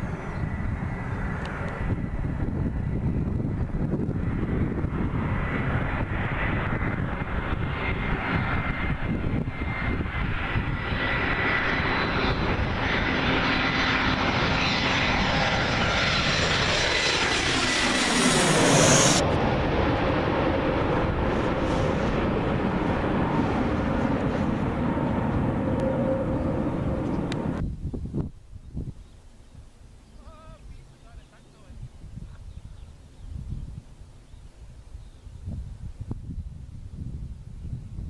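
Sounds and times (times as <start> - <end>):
jet airliner flying overhead: 0.0 - 38.0.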